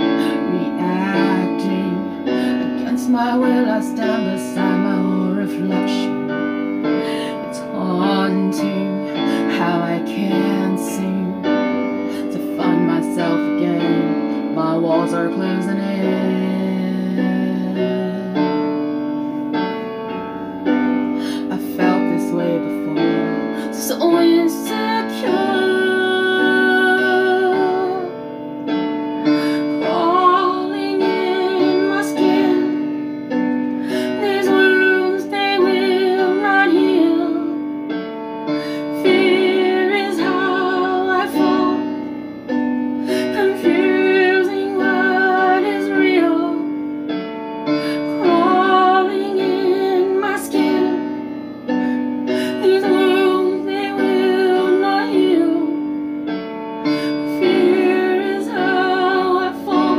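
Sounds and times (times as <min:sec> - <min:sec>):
woman singing: 0:00.0 - 0:18.8, 0:21.0 - 0:28.3, 0:29.2 - 0:46.9, 0:47.7 - 0:56.1, 0:56.8 - 0:59.9
piano chords: 0:00.0 - 0:59.9.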